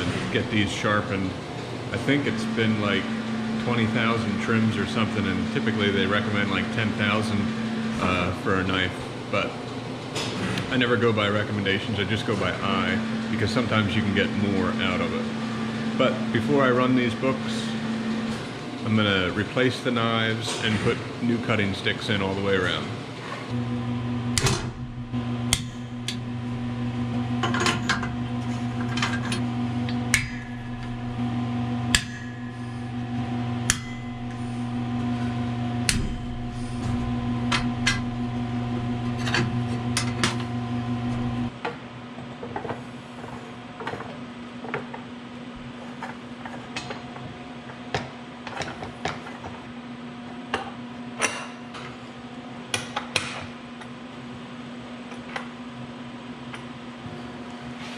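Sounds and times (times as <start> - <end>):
steady machine hum: 0.0 - 57.9.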